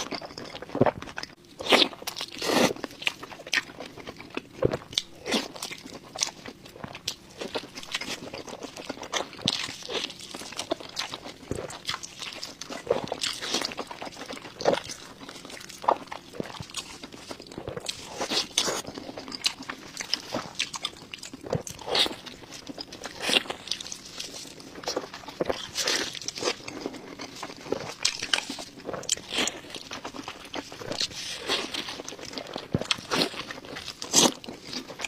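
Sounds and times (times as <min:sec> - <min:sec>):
person chewing crunchy food: 0:00.0 - 0:35.0.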